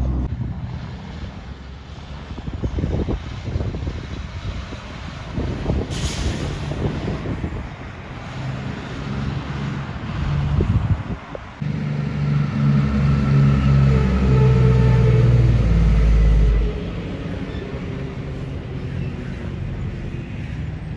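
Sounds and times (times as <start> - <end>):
truck diesel engine approaching: 0.0 - 20.9.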